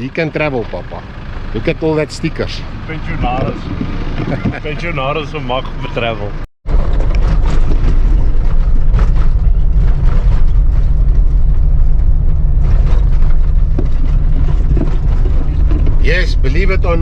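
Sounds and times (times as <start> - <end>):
constant rattling: 0.0 - 17.0
vehicle rumbling on gravel road: 0.0 - 17.0.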